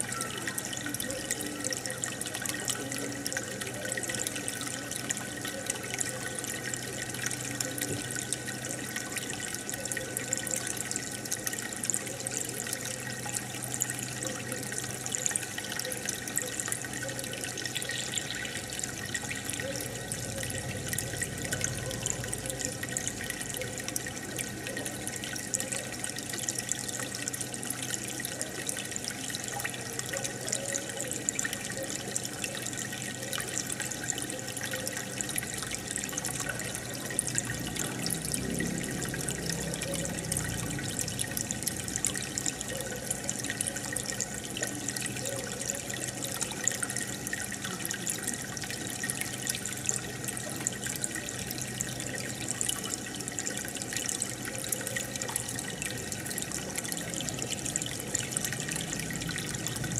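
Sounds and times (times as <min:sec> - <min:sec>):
aquarium water bubbling: 0:00.0 - 0:59.9
low gurgle: 0:00.0 - 0:59.9.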